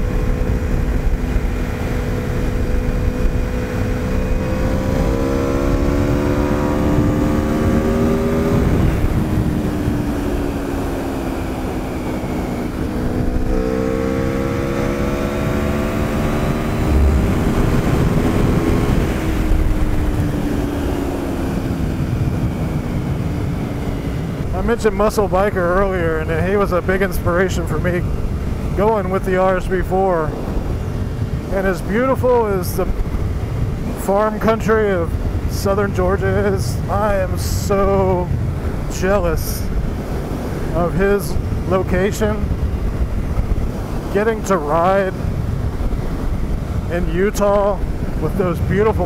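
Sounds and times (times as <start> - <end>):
motorcycle engine accelerating: 0.0 - 49.0.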